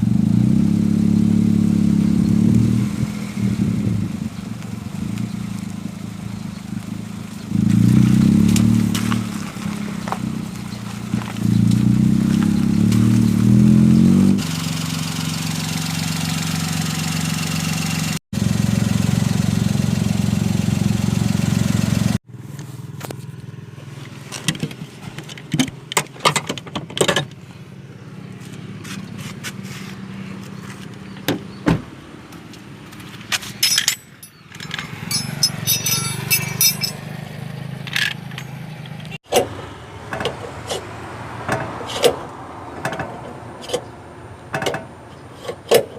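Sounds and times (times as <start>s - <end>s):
car engine humming: 0.0s - 45.9s.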